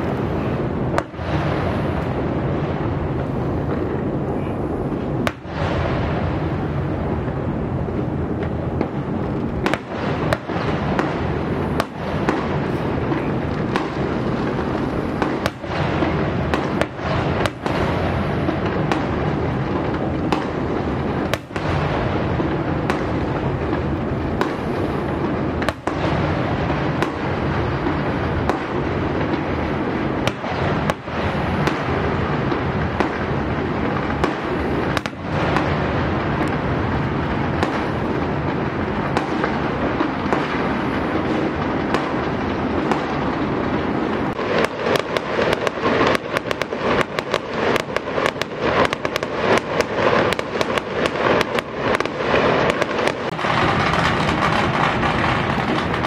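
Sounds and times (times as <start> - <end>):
fireworks crackling: 0.0 - 56.0
fireworks shells bursting: 8.8 - 56.0.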